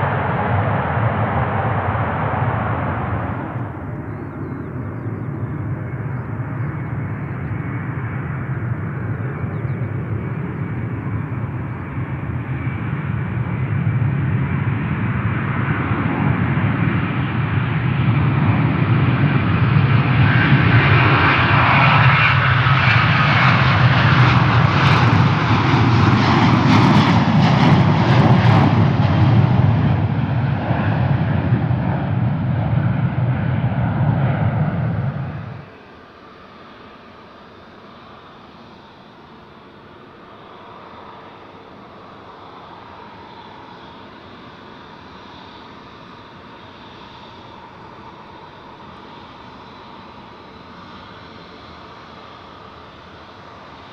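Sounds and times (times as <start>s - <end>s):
jet engine noise: 0.0s - 53.9s.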